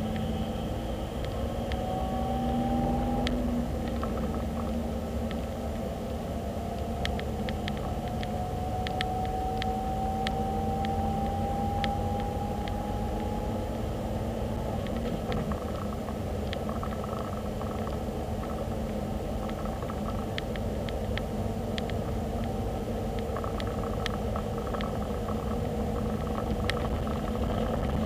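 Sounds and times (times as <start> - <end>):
car road and engine rumble: 0.0 - 28.0
rising whine: 0.0 - 28.0.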